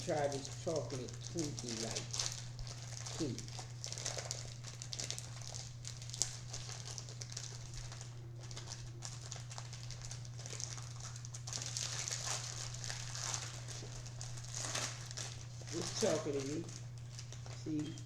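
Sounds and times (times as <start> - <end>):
plastic wrapper crinkling: 0.0 - 18.0
steady low hum: 0.0 - 18.0.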